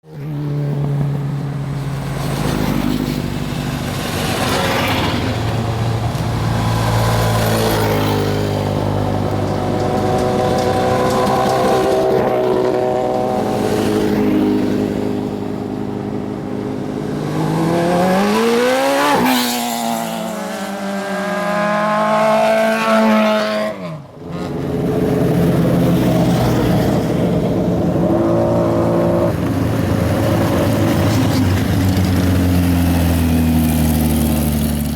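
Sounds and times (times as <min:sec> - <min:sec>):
racing car engines revving: 0:00.1 - 0:34.9.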